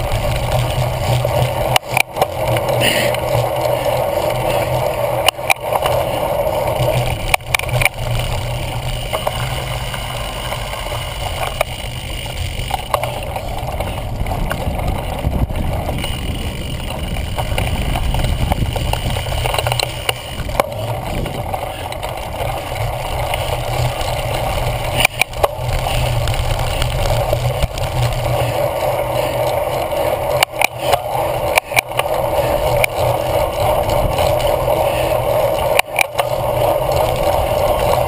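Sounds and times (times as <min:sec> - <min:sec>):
bike knocks and rattles: 0:00.0 - 0:38.0
bike tyres rumbling: 0:00.0 - 0:38.0.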